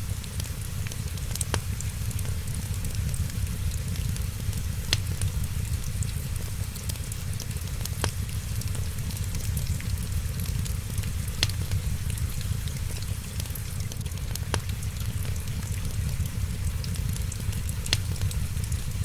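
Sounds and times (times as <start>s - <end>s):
wood fire crackling: 0.0s - 19.0s
sharp pops of fire: 1.2s - 19.0s.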